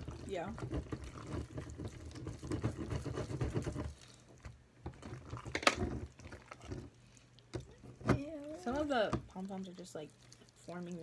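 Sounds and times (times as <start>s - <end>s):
slime squelching: 0.0s - 11.0s.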